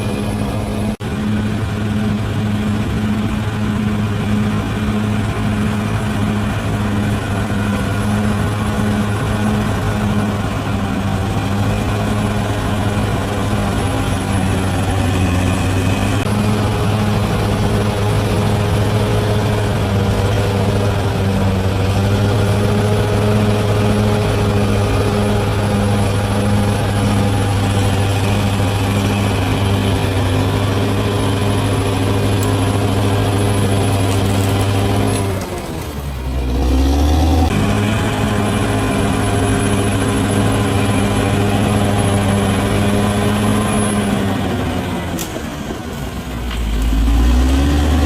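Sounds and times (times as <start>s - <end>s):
bulldozer diesel engine under load: 0.0s - 48.0s.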